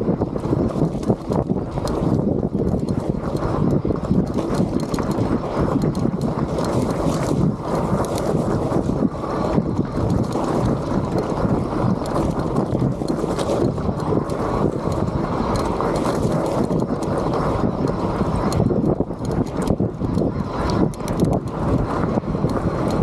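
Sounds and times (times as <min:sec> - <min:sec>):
bike knocks and rattles: 0:00.0 - 0:23.0
wind buffeting microphone: 0:00.0 - 0:23.0
bike tyres crunching over rock: 0:00.1 - 0:23.0.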